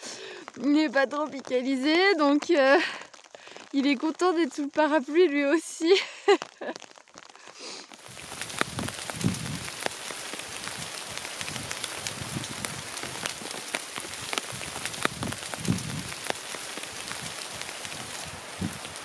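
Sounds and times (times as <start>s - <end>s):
light rain hissing: 0.0s - 19.0s
raindrops ticking: 0.0s - 19.0s.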